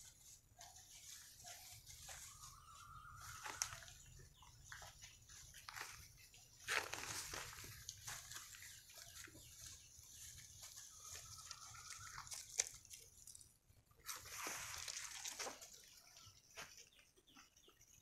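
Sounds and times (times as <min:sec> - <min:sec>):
puppies rustling through leaves: 0:00.0 - 0:04.4, 0:05.3 - 0:13.4, 0:14.0 - 0:16.0.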